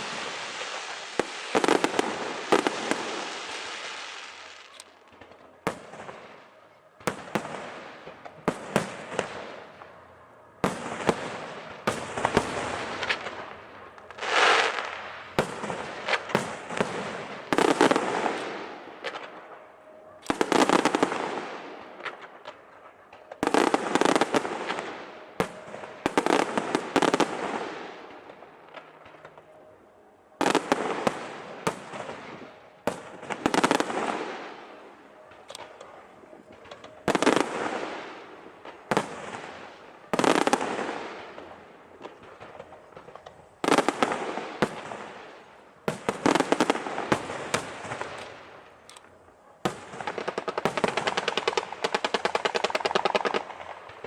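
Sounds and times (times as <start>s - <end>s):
fireworks bursting with crackle: 0.0s - 54.0s.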